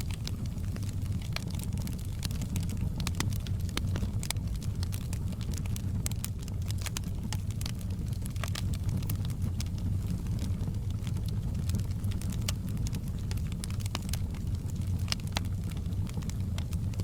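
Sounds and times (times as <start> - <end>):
crackling wood fire: 0.0 - 17.0.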